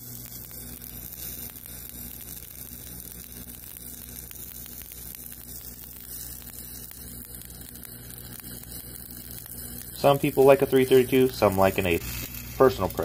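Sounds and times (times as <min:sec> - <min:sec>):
steady low hum: 0:00.0 - 0:13.0
welding arc crackling hiss: 0:00.0 - 0:13.0.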